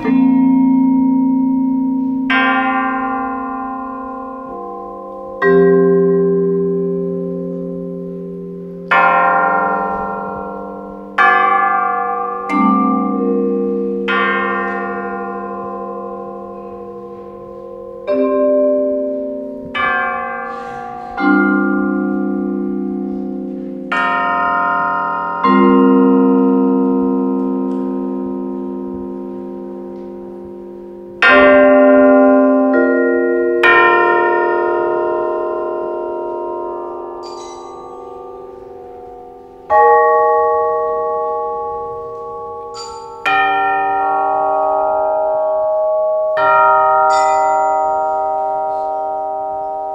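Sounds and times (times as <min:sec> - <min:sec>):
tubular bells and mallet keyboard chords: 0:00.0 - 0:49.9.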